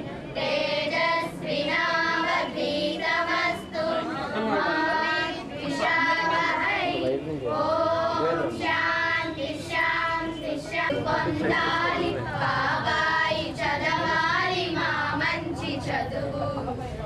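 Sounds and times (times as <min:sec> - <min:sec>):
women singing together: 0:00.2 - 0:17.0.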